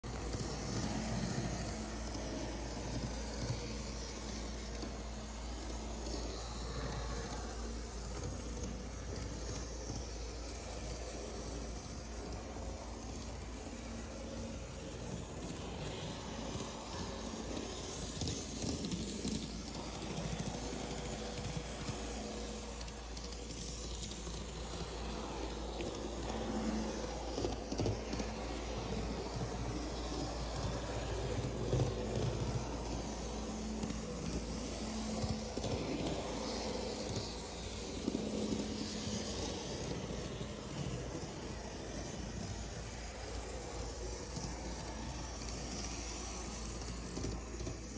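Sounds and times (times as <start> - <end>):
model tram motor hum: 0.0 - 47.9
steady hiss: 0.0 - 47.9.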